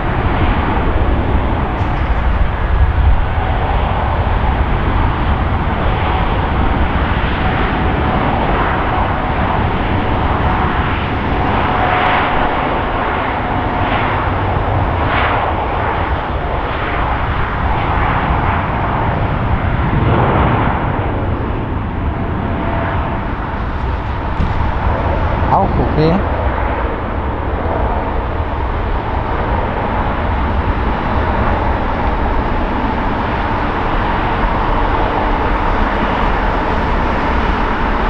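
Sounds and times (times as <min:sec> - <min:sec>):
faint engine whine: 0:00.0 - 0:38.0
jet engines roaring on takeoff: 0:00.0 - 0:38.0.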